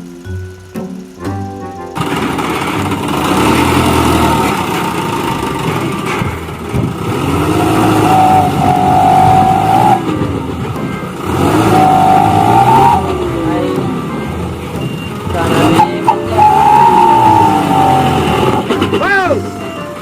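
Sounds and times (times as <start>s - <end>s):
steady higher tone: 0.0s - 19.8s
vehicle engines running: 0.0s - 20.0s.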